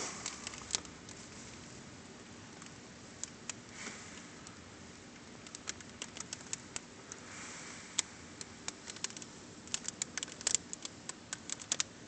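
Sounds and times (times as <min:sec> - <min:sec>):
faint wind hiss: 0:00.0 - 0:12.0.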